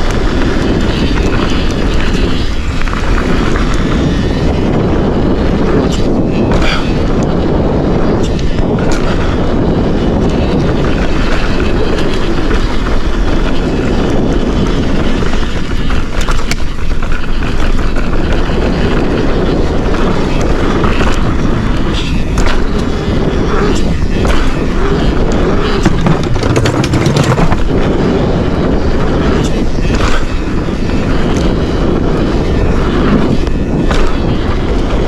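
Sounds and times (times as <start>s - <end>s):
bike clattering over rough ground: 0.0s - 35.0s
tyre and wind rush: 0.0s - 35.0s.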